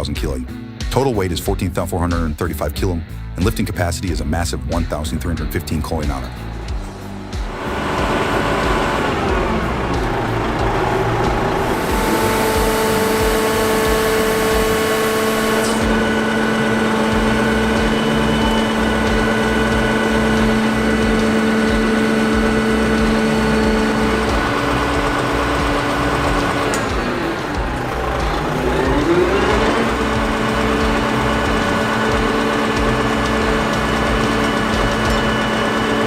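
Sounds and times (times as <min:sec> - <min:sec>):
heavy machine engine whining: 0:06.2 - 0:36.0.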